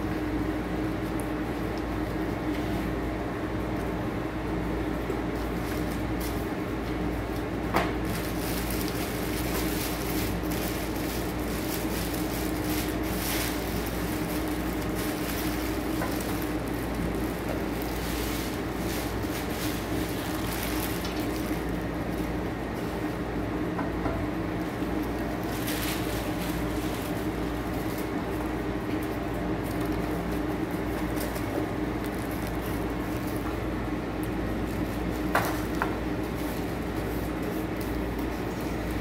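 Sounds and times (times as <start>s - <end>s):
steady low hum: 0.0s - 39.0s
plastic and cardboard rustling: 5.3s - 23.2s, 24.5s - 39.0s.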